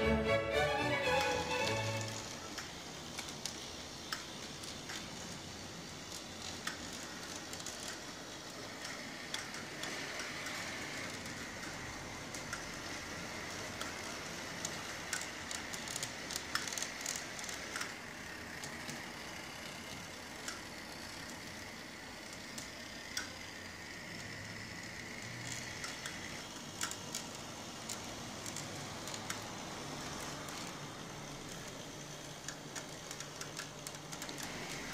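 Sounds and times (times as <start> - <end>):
faint motor whine: 0.0 - 34.9
small electric motor whirring: 1.0 - 34.9
wheels clicking over rail joints: 1.2 - 34.9.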